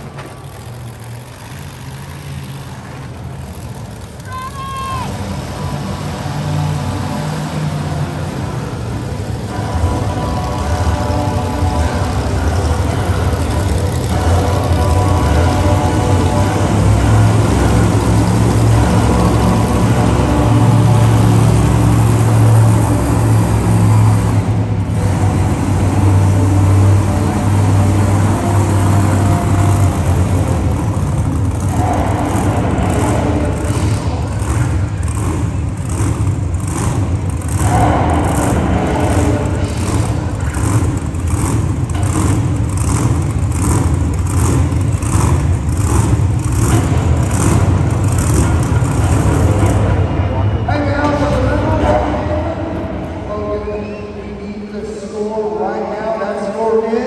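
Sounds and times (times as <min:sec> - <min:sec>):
monster truck engine running: 0:00.0 - 0:57.0
sharp rhythmic pulses: 0:05.0 - 0:55.6.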